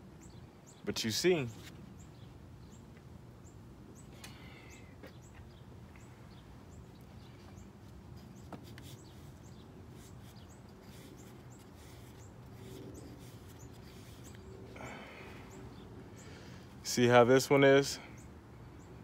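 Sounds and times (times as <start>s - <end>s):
low background hum: 0.0s - 19.0s
small birds chirping: 0.0s - 19.0s.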